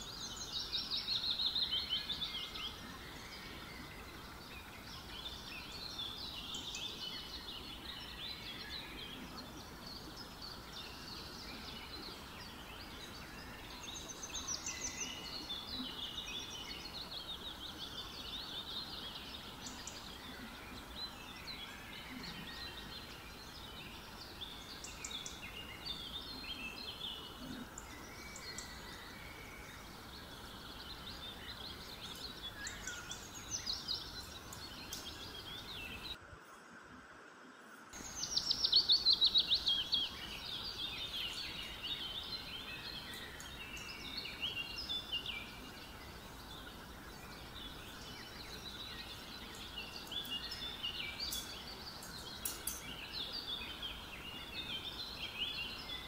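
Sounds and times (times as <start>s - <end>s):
small birds chirping: 0.0s - 36.2s, 37.7s - 56.0s
steady hiss: 0.0s - 56.0s.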